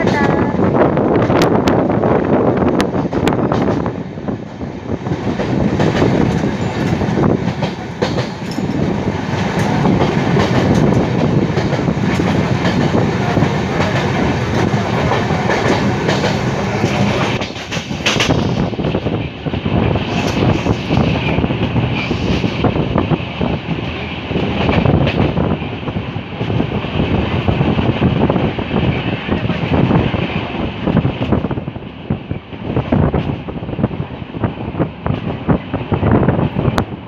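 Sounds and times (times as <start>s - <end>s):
train rushing rumble: 0.0s - 37.0s
train wheels clattering over rails: 0.0s - 37.0s.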